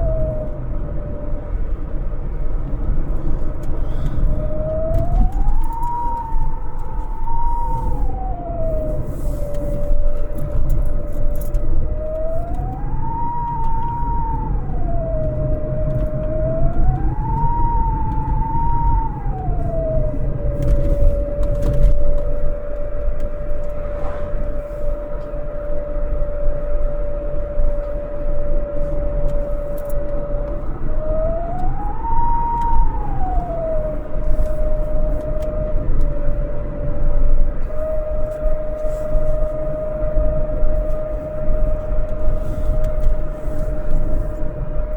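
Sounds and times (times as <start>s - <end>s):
steady whistle tone: 3.8s - 44.9s.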